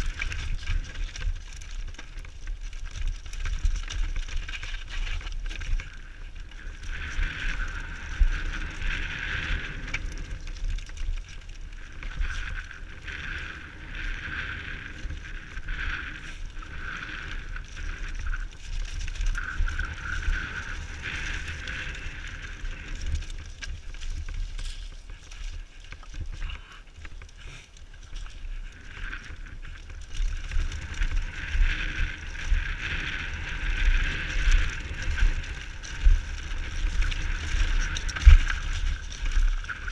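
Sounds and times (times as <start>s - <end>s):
wind rumbling on microphone: 0.0s - 39.9s.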